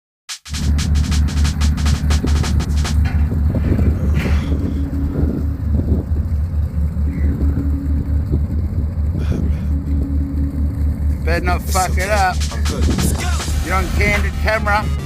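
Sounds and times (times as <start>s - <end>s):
engine idling: 0.5s - 15.0s.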